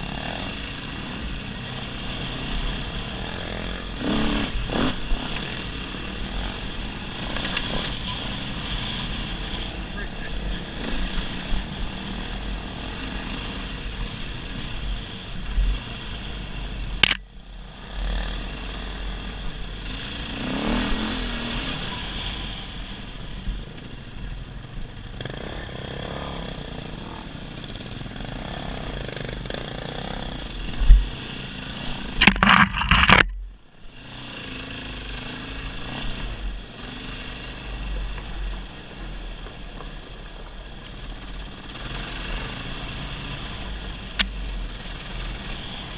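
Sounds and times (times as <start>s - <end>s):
dirt bike engine running: 0.0s - 45.9s.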